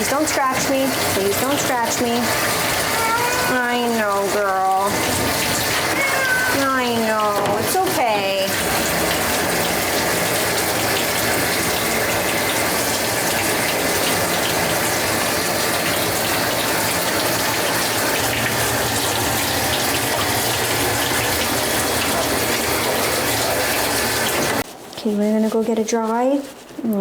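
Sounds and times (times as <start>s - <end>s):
water spraying from sprayer: 0.0s - 24.6s.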